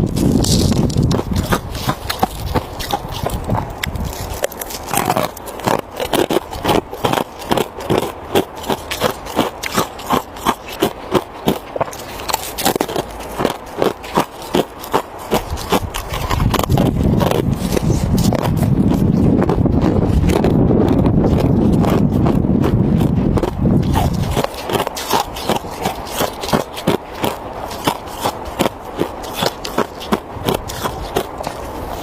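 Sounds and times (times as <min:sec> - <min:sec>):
ice crunching while chewed: 0:00.0 - 0:32.0.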